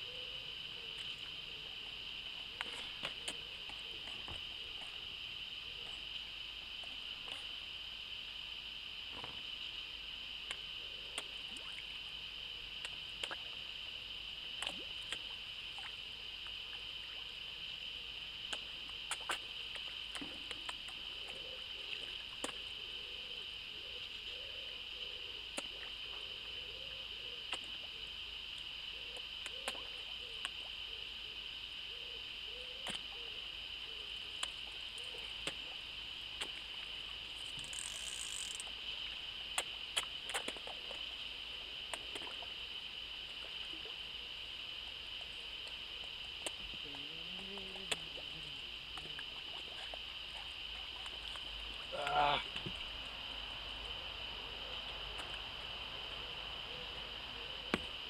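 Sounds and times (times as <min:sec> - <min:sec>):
steady high-pitched hiss: 0:00.0 - 0:58.0.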